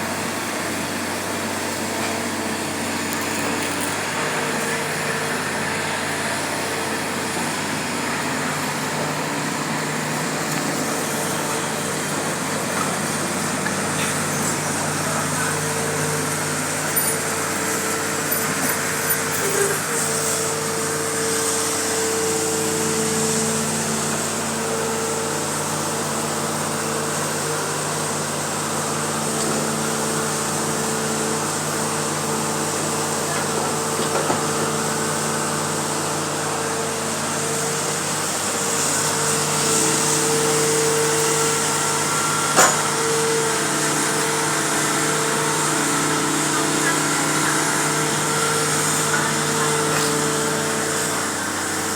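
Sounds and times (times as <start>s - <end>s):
excavator engine and hydraulic whine: 0.0s - 51.9s.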